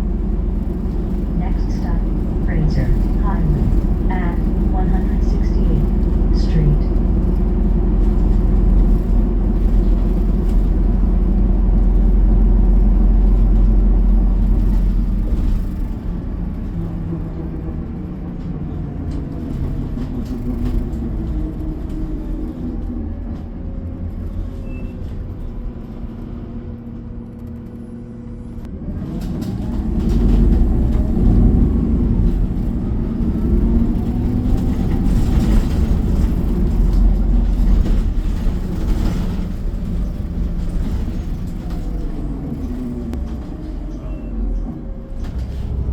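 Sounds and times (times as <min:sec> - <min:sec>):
bus engine running: 0:00.0 - 0:45.9.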